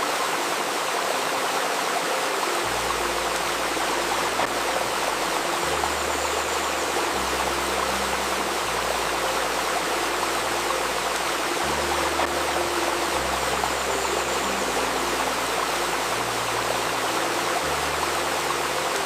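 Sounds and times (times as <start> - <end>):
river water babbling: 0.0 - 19.0
low sustained tones: 0.2 - 19.0.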